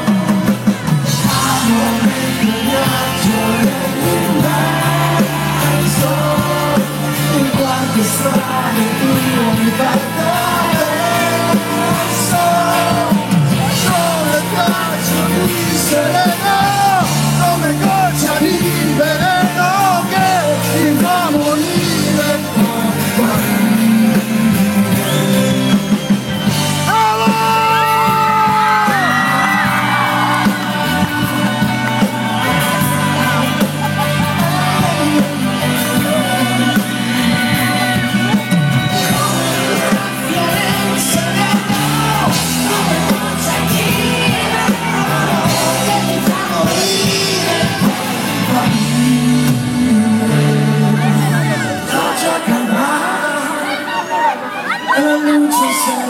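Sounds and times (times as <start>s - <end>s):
rock song: 0.0s - 56.0s.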